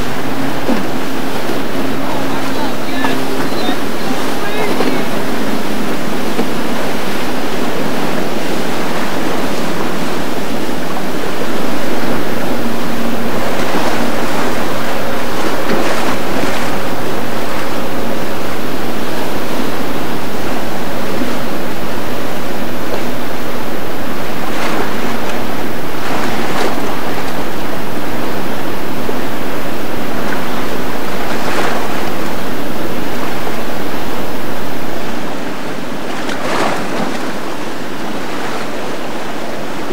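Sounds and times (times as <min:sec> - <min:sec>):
churning water splashing: 0:00.0 - 0:39.9
faint outboard engine hum: 0:00.0 - 0:39.9
wind on microphone: 0:00.0 - 0:39.9.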